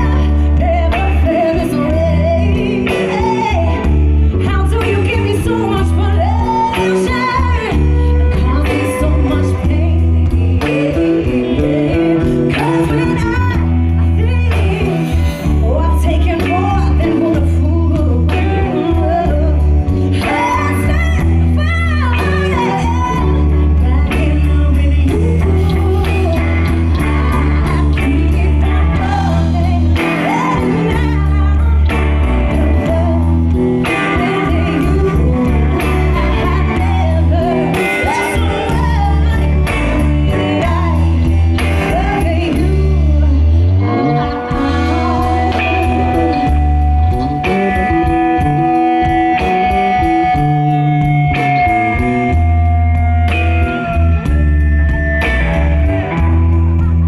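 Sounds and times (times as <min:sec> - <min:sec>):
drums: 0:00.0 - 0:57.0
electric guitar: 0:00.0 - 0:57.0
heavy bass line: 0:00.0 - 0:57.0
woman singing lead: 0:00.0 - 0:57.0.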